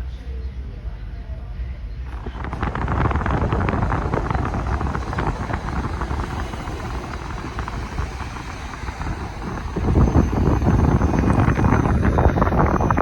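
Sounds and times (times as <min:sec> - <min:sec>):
train rumbling: 0:02.0 - 0:13.0
wheels clattering on track: 0:02.1 - 0:13.0.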